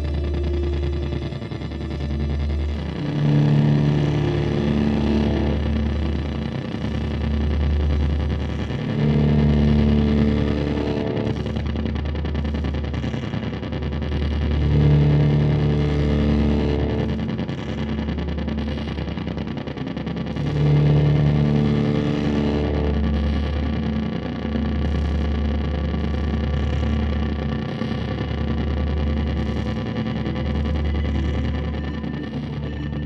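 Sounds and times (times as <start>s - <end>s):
ambient music held chords: 0.0s - 33.0s
steady deep drone: 0.0s - 33.0s.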